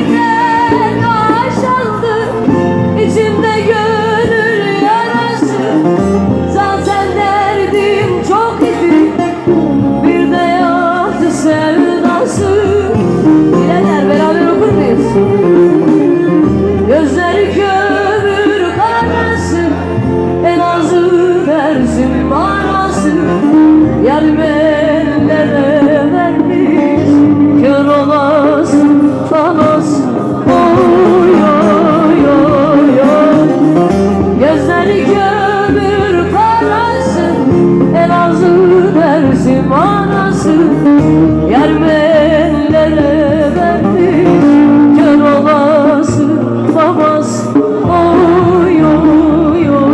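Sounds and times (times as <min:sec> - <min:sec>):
instrumental backing with bass: 0:00.0 - 0:49.9
person singing ornamented melody: 0:00.0 - 0:49.9.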